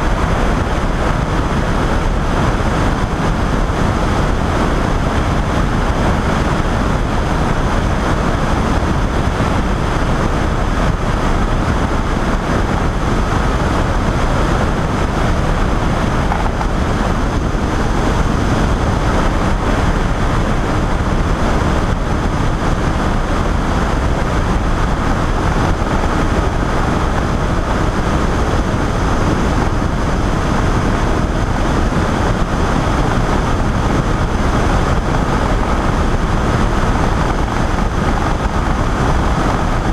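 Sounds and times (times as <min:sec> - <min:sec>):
microlight engine drone: 0:00.0 - 0:39.9
wind over microphone: 0:00.0 - 0:39.9.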